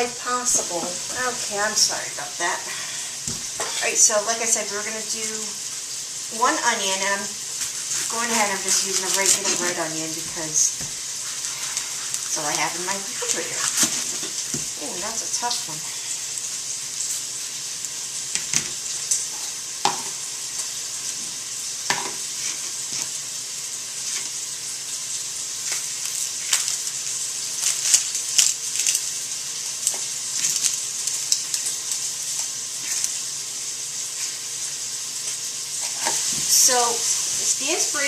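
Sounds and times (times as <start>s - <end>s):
sausage sizzling in a pot: 0.0s - 38.0s.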